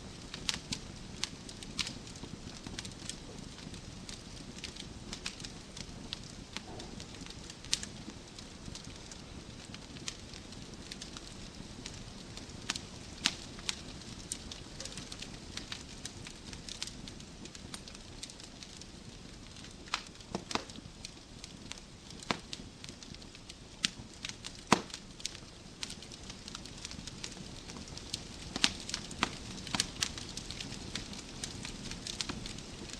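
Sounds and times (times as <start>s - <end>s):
logs crackling and popping: 0.0s - 32.9s
low rush of flame: 0.0s - 32.9s.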